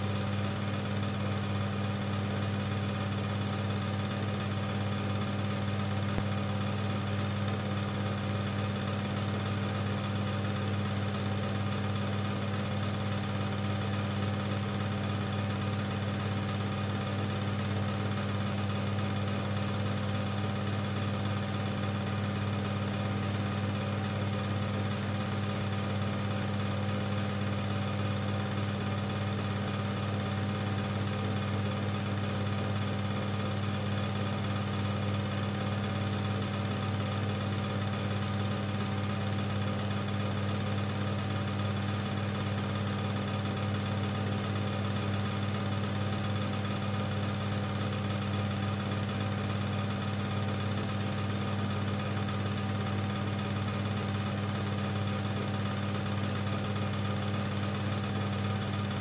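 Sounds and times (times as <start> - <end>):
film projector humming: 0.0 - 59.0.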